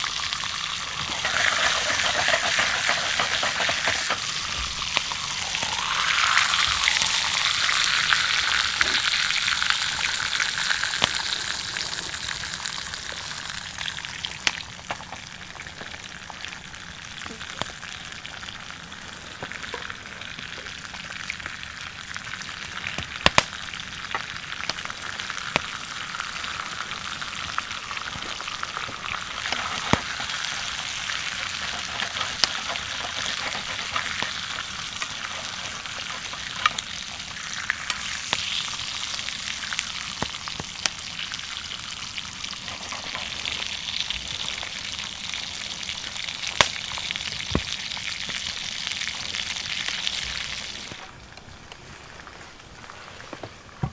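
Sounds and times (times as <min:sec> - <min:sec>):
fire popping and crackling: 0:00.0 - 0:53.9
steak sizzling over fire: 0:00.0 - 0:53.9.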